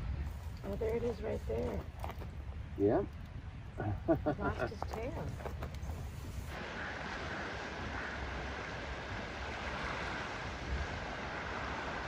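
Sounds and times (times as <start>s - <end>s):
distant surf: 0.0s - 12.0s
wind: 0.0s - 12.0s.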